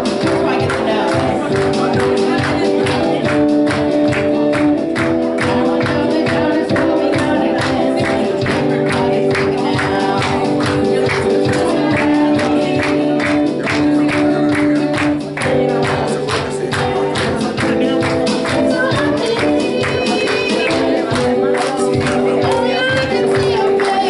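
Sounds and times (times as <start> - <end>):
worship band music: 0.0 - 24.0.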